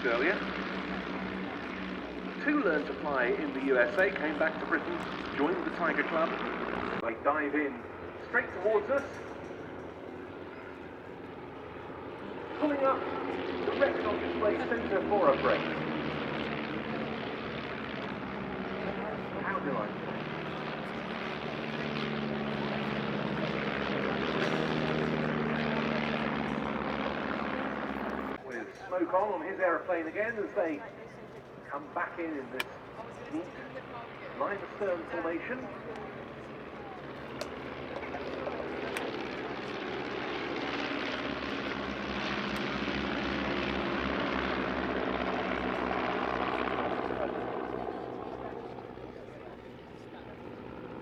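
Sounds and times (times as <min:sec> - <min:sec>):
biplane piston engines droning: 0:00.0 - 0:51.0.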